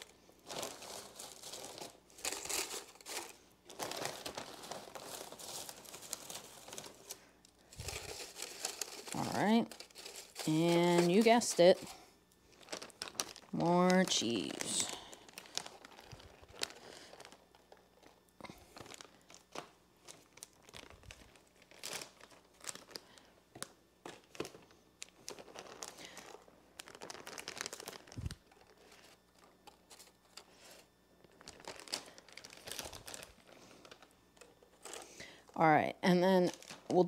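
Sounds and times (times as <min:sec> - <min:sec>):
cheese crinkling and rustling: 0:00.0 - 0:37.0.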